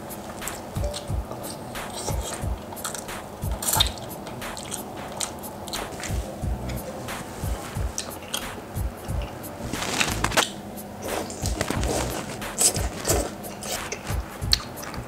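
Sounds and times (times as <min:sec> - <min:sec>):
close-miked chewing: 0:00.3 - 0:15.0.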